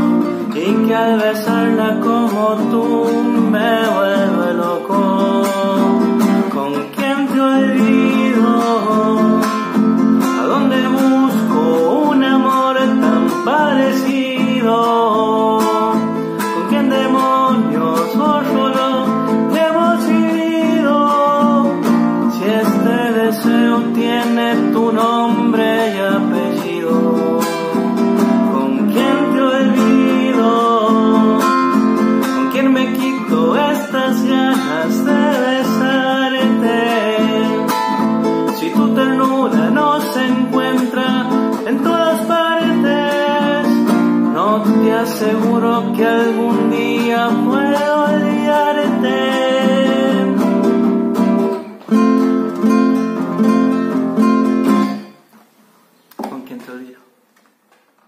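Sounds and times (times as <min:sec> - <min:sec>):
man singing a ballad: 0:00.0 - 0:51.1
acoustic guitar strumming: 0:00.0 - 0:55.5.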